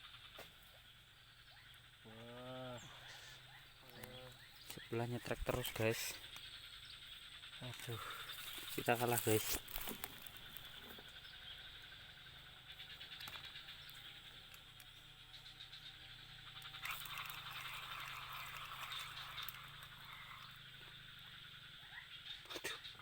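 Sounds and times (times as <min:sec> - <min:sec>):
chorus of calling animals: 0:01.2 - 0:16.8, 0:19.2 - 0:23.0.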